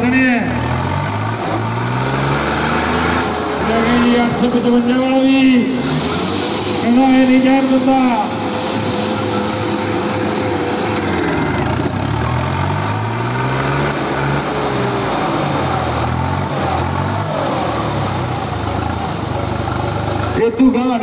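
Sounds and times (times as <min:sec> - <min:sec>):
diesel tractor engines straining: 0:00.0 - 0:21.0.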